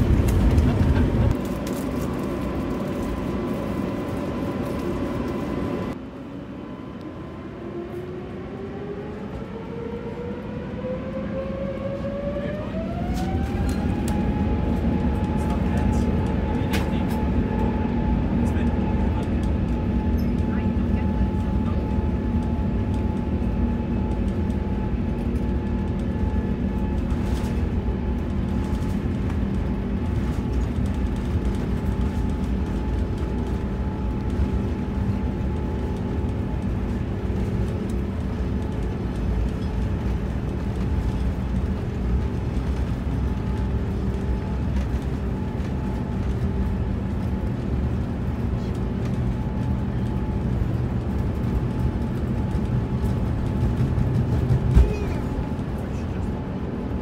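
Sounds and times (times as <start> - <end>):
constant hum: 0.0 - 57.0
rumble of engines and wheels: 0.0 - 57.0.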